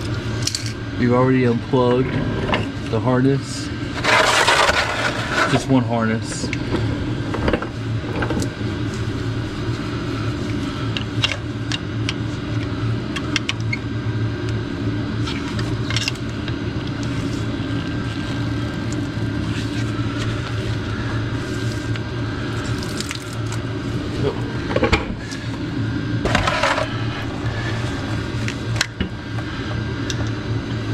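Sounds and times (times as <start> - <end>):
low hum of shop equipment: 0.0 - 30.9.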